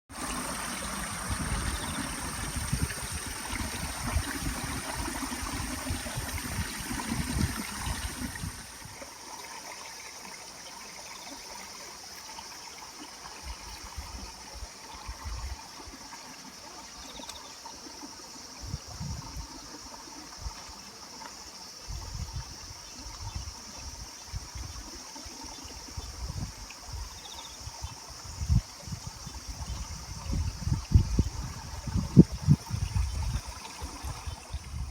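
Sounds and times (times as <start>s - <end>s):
water trickling and splashing: 0.1s - 34.9s.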